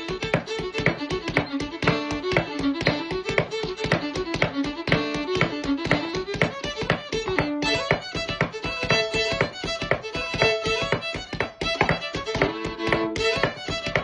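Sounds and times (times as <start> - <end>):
fiddle playing quick tune: 0.0 - 14.0.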